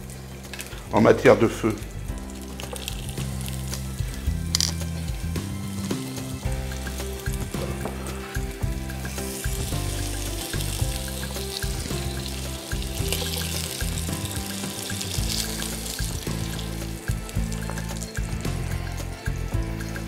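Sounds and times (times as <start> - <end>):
background music with low bass: 0.0 - 20.0
meat sizzling in oil: 0.0 - 20.0.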